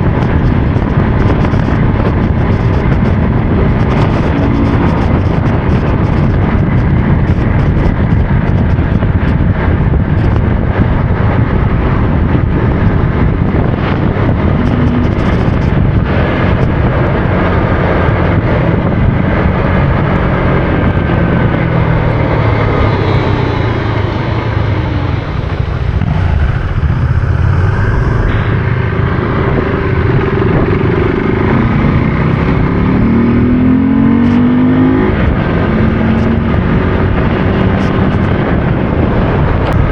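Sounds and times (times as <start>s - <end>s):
dense steady rumble: 0.0s - 39.9s
motorcycle engine accelerating: 0.0s - 39.9s.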